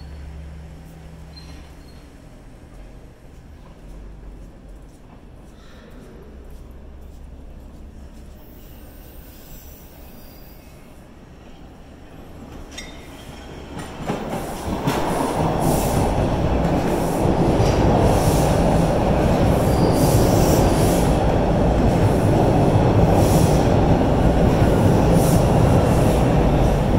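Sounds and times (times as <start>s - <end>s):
subway train rumbling: 0.0s - 26.9s.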